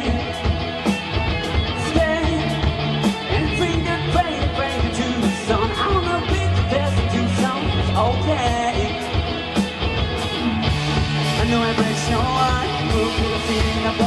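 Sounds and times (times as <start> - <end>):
lead singer singing: 0.0 - 1.0, 1.6 - 9.6, 10.6 - 14.0
live rock band playing: 0.0 - 14.0.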